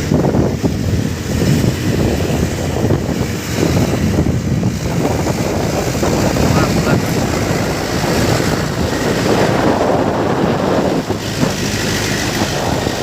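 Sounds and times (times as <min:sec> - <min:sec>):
truck diesel engine rumbling: 0:00.0 - 0:13.0
wind buffeting microphone: 0:00.0 - 0:13.0.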